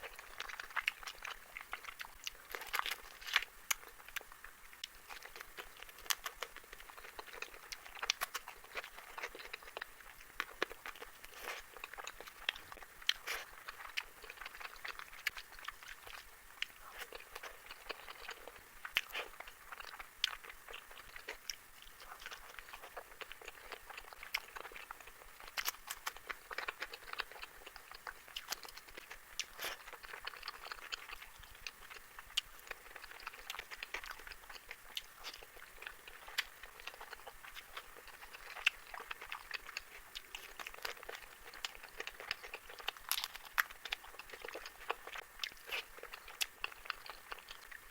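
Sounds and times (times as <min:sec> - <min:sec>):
chewing and mouth smacks: 0:00.0 - 0:47.9.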